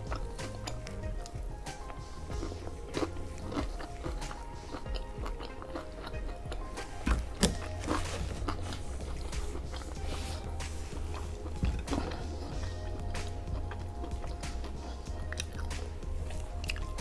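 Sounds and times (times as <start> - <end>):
chewing and crunching food: 0.0 - 17.0
soft background music: 0.0 - 17.0.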